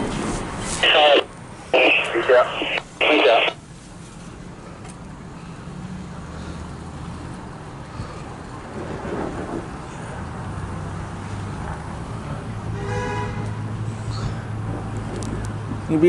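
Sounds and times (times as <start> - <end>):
engine hum: 0.0 - 16.0
road traffic: 0.0 - 16.0.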